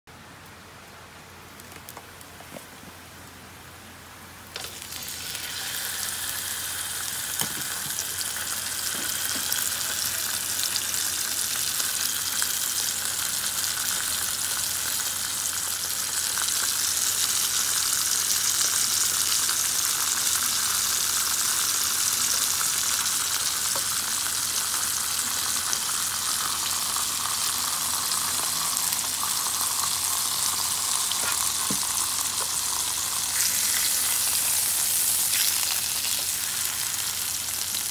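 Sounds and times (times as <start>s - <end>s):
steak sizzling in oil: 4.6s - 37.9s.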